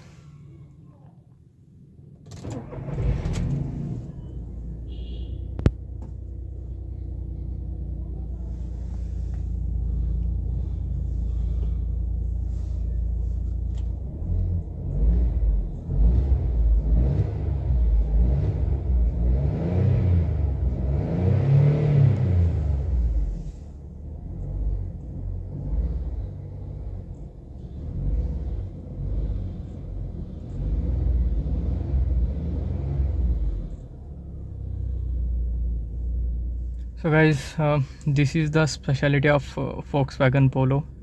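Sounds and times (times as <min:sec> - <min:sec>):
car engine starting and revving: 0:02.0 - 0:39.5.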